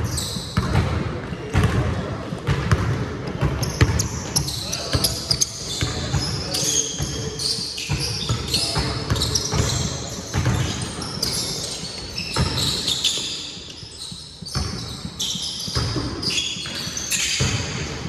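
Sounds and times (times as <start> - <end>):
basketball bouncing on court: 0.0 - 18.0
sneakers squeaking on floor: 0.0 - 18.0.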